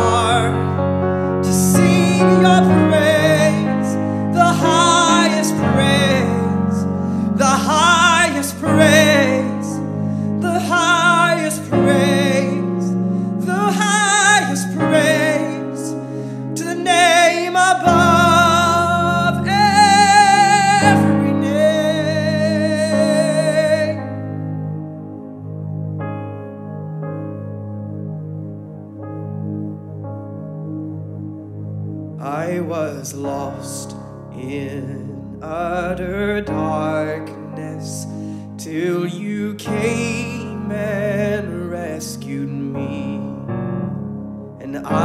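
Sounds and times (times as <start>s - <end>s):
man singing with vibrato: 0.0s - 24.5s, 32.2s - 43.5s, 44.6s - 45.0s
sustained piano chords: 0.0s - 45.0s.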